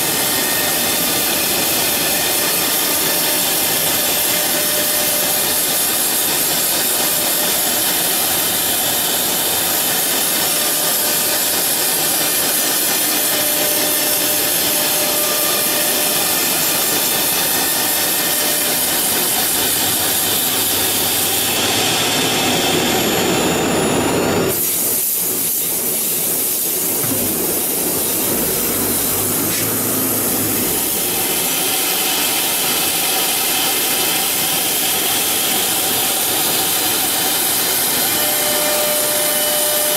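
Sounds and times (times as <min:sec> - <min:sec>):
wood router cutting: 0:00.0 - 0:39.9.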